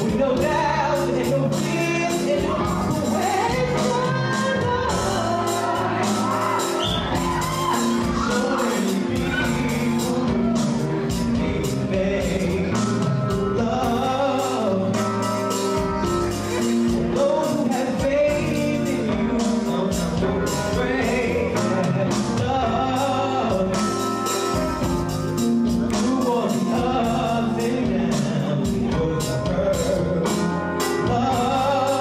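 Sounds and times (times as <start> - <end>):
man singing into microphone: 0.0 - 24.9, 25.6 - 32.0
music with steady beat: 0.0 - 32.0.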